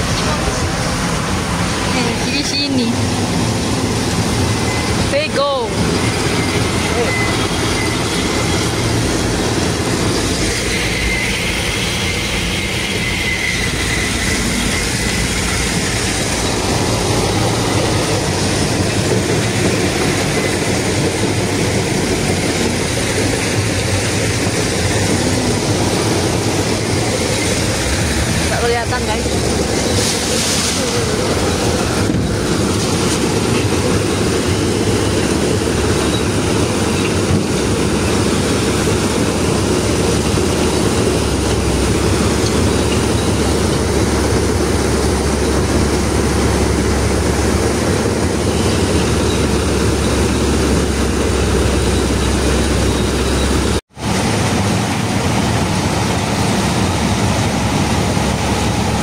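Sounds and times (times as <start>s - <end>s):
road and body rumble: 0.0s - 59.0s
truck engine running: 0.0s - 59.0s.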